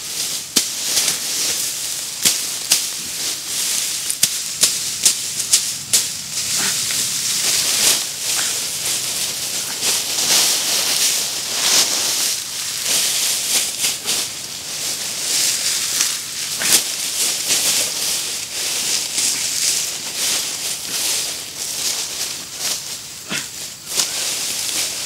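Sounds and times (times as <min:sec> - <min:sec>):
grass and dry leaves rustling: 0:00.0 - 0:25.0.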